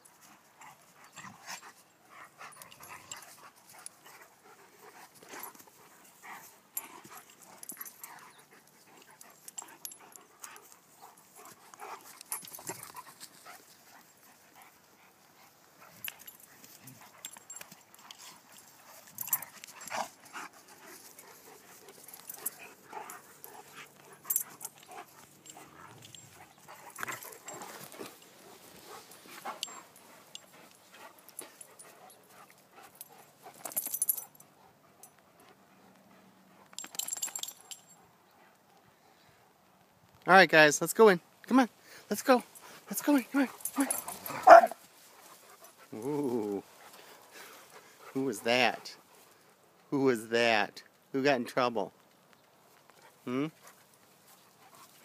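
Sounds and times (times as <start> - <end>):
dogs mouthing and scuffling: 0.0 - 38.8, 42.4 - 49.9, 52.0 - 55.0
dogs panting: 0.0 - 39.6, 41.9 - 49.9, 52.8 - 55.0.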